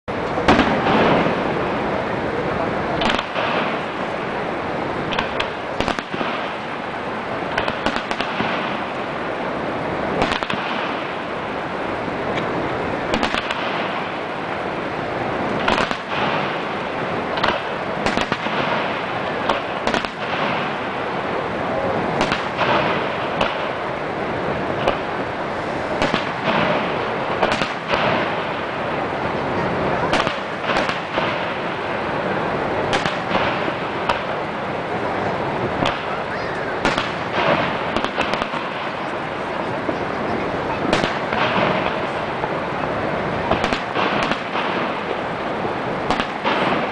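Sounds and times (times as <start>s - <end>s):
fireworks bursting: 0.0s - 46.9s
loud rushing noise: 0.0s - 46.9s.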